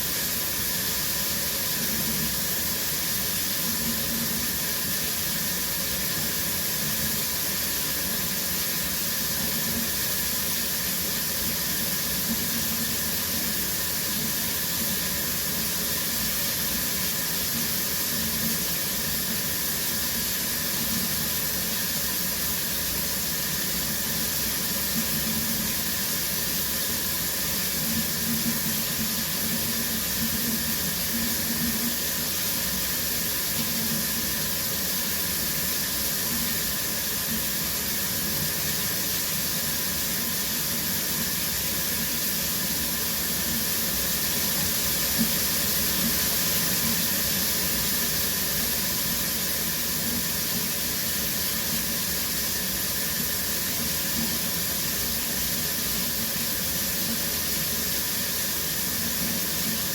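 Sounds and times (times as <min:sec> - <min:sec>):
shower water spraying: 0:00.0 - 0:59.9.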